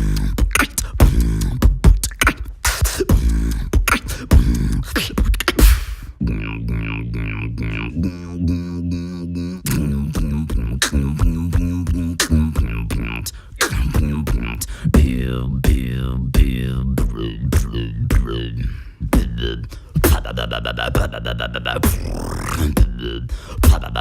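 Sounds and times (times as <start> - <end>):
beatboxing percussive hits: 0.0 - 8.1, 9.6 - 24.0
buzzing vocal bass: 0.0 - 24.0.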